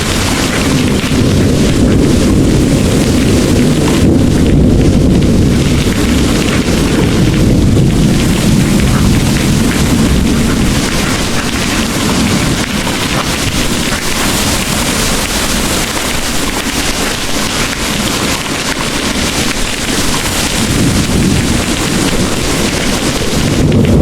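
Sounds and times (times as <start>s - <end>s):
distant thunder rumble: 0.0s - 24.0s
heavy rain pouring: 0.0s - 24.0s.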